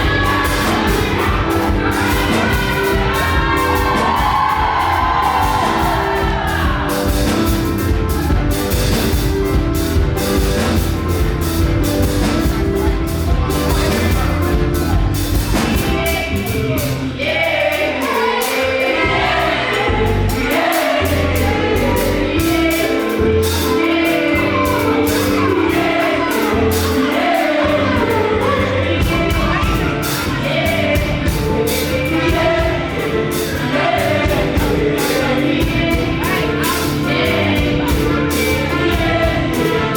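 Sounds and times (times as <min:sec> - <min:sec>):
bass guitar: 0:00.0 - 0:39.9
choir singing gospel: 0:00.0 - 0:39.9
drums: 0:00.0 - 0:39.9.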